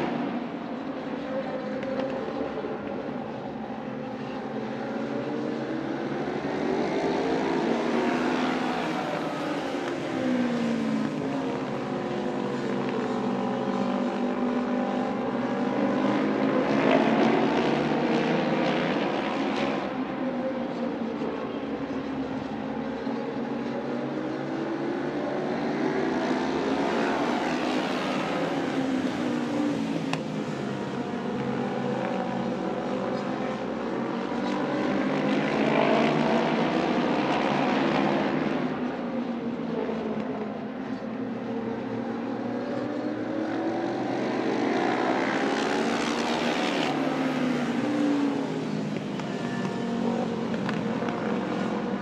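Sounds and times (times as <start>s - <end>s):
racing motorcycles passing: 0.0s - 52.0s.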